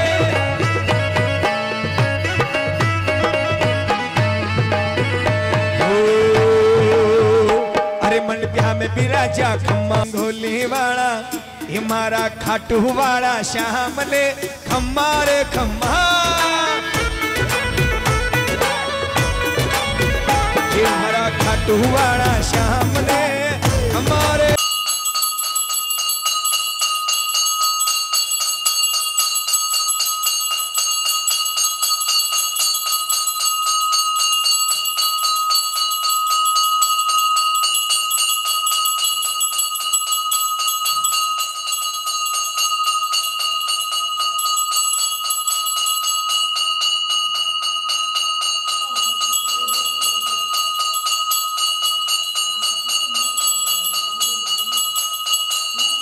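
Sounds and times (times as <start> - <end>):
metal bells ringing rapidly: 0.0 - 56.0.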